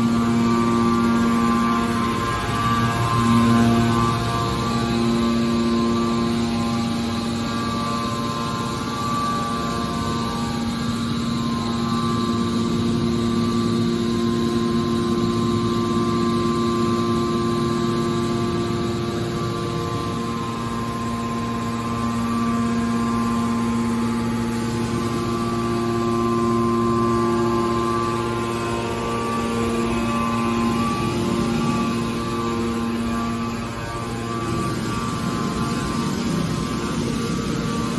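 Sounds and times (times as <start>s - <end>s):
hydraulic power unit humming: 0.0s - 37.9s.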